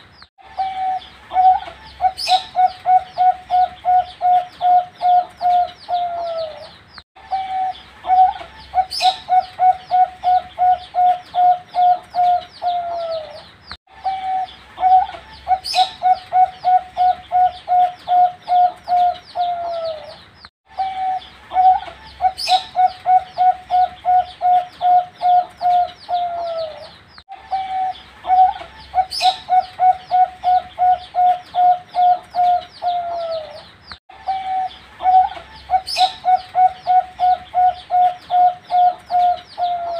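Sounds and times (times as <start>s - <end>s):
birds chirping: 0.0s - 39.9s
dove cooing: 0.4s - 39.9s.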